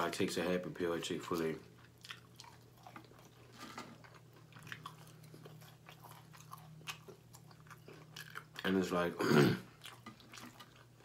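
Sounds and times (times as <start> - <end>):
low steady hum: 0.0 - 11.0
chewing crispy food: 1.2 - 11.0.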